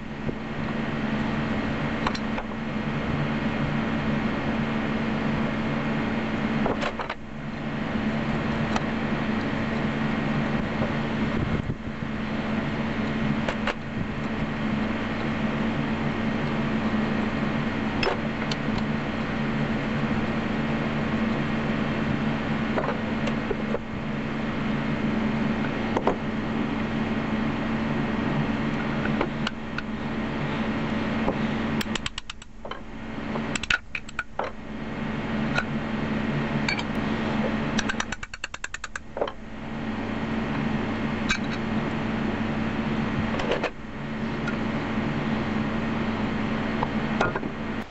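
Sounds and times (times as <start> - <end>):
low hum: 0.0 - 47.9.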